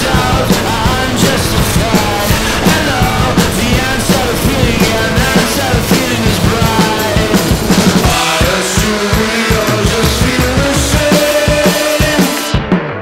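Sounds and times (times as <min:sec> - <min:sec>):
driving drum beat: 0:00.0 - 0:13.0
rock music with singer: 0:00.0 - 0:13.0.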